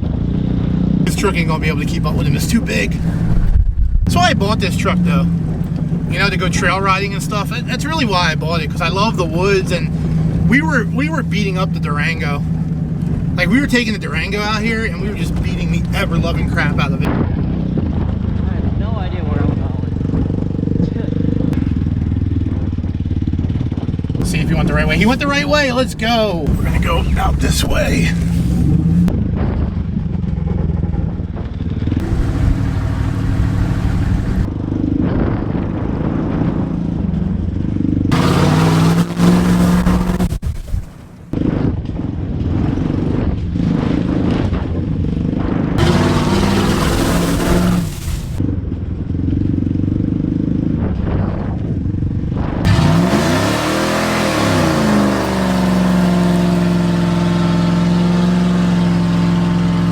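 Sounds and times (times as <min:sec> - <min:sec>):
pickup truck engine: 0:00.0 - 0:59.9
rushing noise of truck moving: 0:00.0 - 0:59.9.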